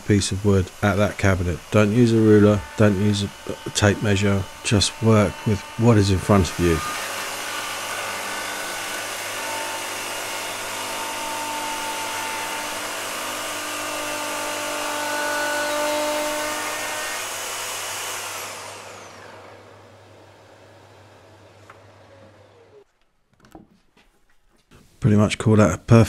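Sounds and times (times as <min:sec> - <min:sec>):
track saw cutting wood: 0:00.0 - 0:22.9.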